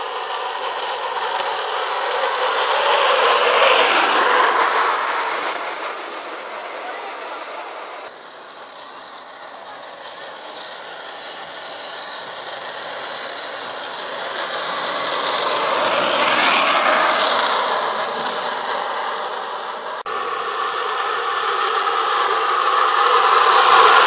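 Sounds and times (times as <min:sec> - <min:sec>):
wooden cart rolling on asphalt: 0:00.0 - 0:20.2, 0:21.1 - 0:24.0.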